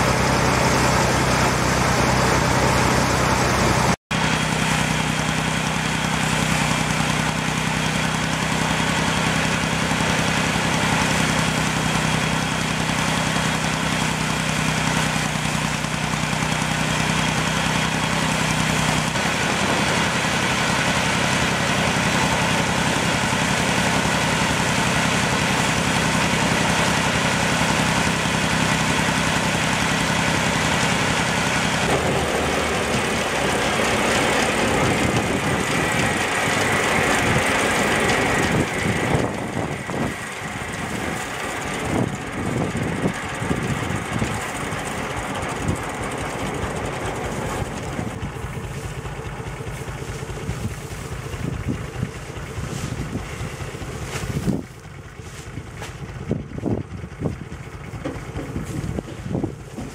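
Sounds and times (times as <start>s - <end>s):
thresher running: 0.0s - 59.9s
tractor engine droning: 0.0s - 59.9s.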